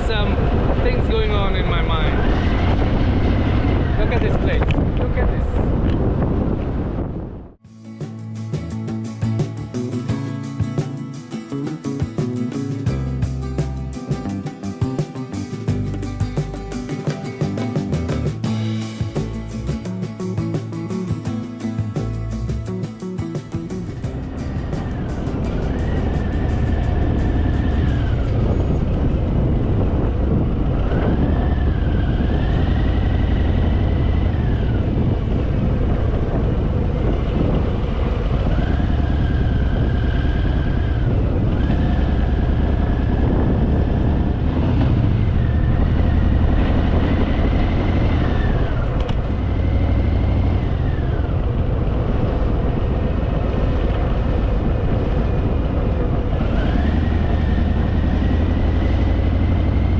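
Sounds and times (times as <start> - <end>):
motorcycle engine revving: 0.0 - 7.4, 8.1 - 59.9.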